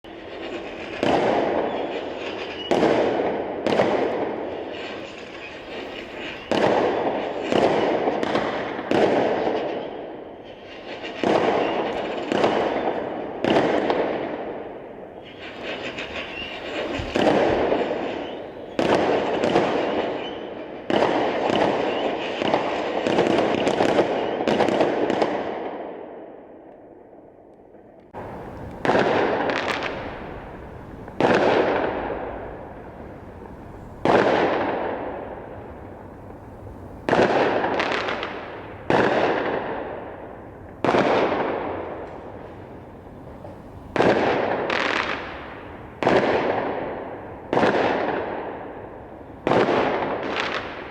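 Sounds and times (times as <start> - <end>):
fireworks bangs: 0.0 - 26.1, 28.1 - 50.9.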